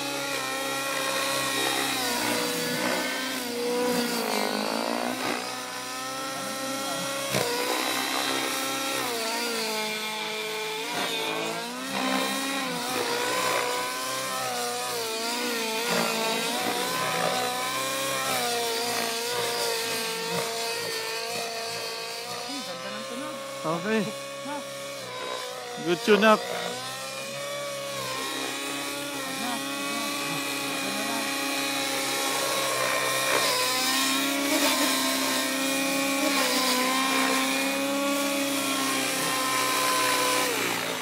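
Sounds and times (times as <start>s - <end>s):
model helicopter engine and rotor: 0.0s - 41.0s.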